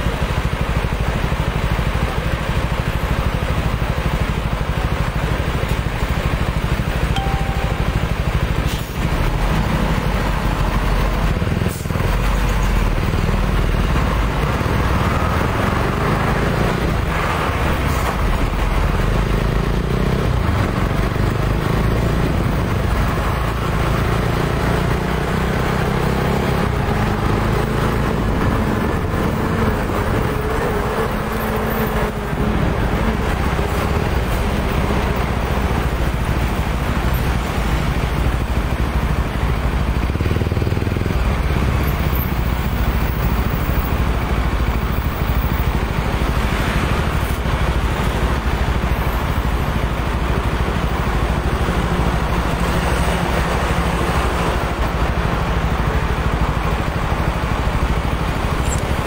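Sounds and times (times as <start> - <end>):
motorcycle engine running: 0.0 - 59.0
road traffic: 0.0 - 59.0.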